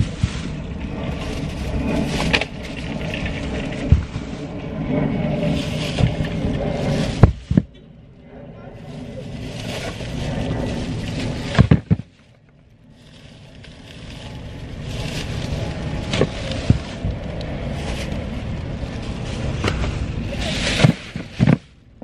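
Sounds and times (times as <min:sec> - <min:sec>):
plastic bags rustling: 0:00.0 - 0:04.6, 0:05.2 - 0:07.7, 0:08.8 - 0:21.9
steady background noise: 0:00.0 - 0:22.0.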